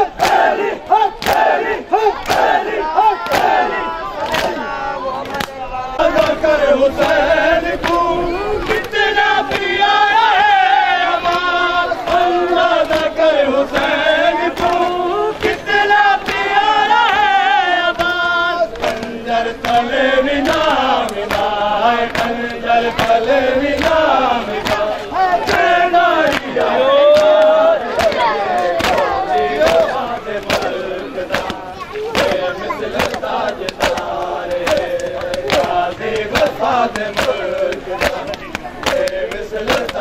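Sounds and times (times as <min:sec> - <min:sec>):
men chanting a lament: 0:00.0 - 0:40.0
open-hand slaps on chests: 0:00.2 - 0:06.4, 0:07.8 - 0:08.0, 0:08.6 - 0:10.6, 0:11.2 - 0:40.0.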